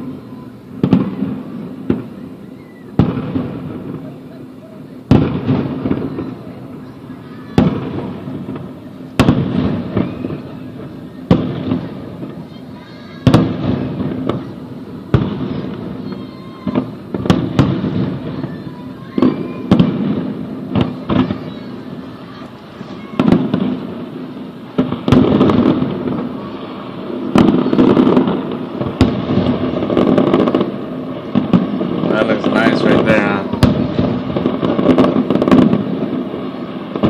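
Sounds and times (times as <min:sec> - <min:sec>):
fireworks booming: 0:00.0 - 0:37.0.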